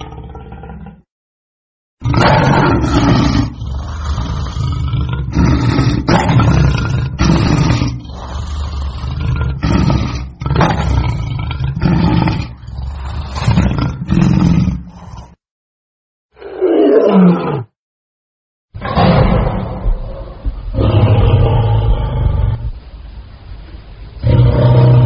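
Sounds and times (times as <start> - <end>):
lion roaring: 0.0 - 1.1, 2.0 - 15.4, 16.4 - 17.8, 18.8 - 22.8, 24.2 - 25.0.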